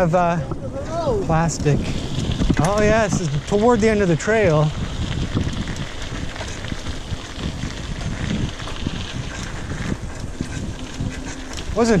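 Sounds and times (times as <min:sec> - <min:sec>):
mountain bike rattling on trail: 0:00.0 - 0:12.0
wind buffeting microphone: 0:00.0 - 0:12.0.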